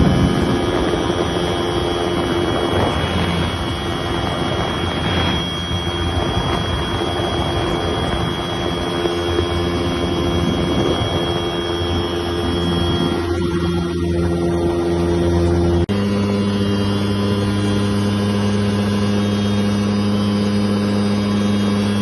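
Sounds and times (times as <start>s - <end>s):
light airplane engine and propeller: 0.0s - 22.0s.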